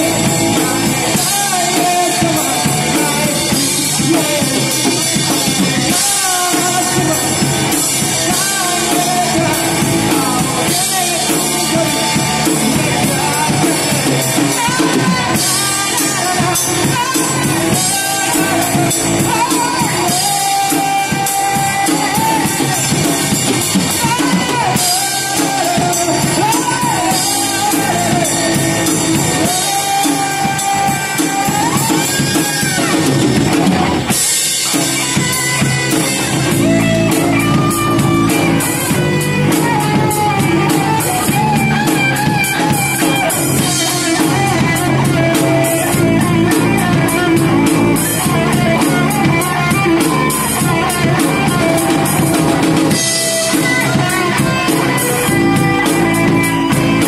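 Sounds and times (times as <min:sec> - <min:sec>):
melodic guitar line: 0:00.0 - 0:57.0
rock band playing: 0:00.0 - 0:57.0.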